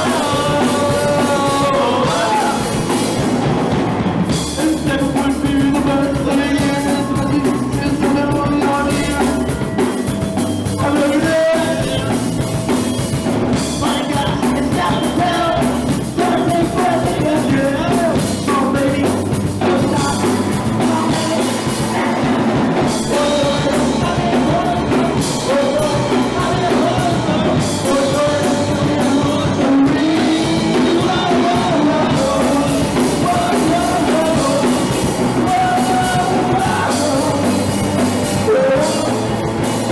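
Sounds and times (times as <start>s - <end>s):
shouted singing: 0.0s - 9.7s, 13.8s - 39.9s
distorted guitars: 0.0s - 39.9s
drum kit: 0.0s - 39.9s.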